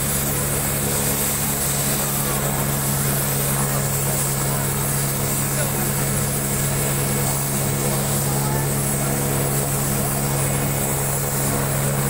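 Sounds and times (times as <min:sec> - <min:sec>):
helicopter idling: 0:00.0 - 0:12.0.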